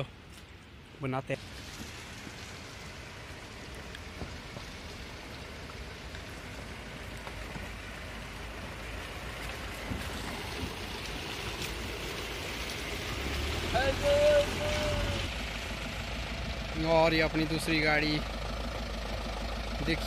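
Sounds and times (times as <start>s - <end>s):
pickup engine at low speed: 0.6s - 20.0s
rain hissing: 1.3s - 17.7s.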